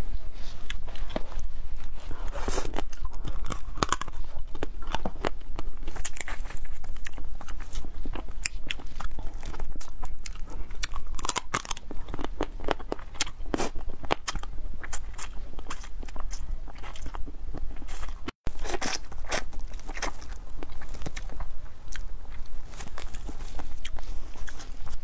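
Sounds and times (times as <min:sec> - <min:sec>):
person chewing crunchy shellfish: 0:00.7 - 0:25.0.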